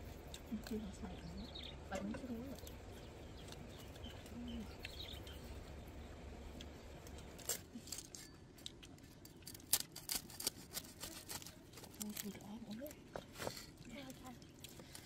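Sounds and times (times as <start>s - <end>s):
cleaver crunching pork crackling: 0.0s - 15.0s.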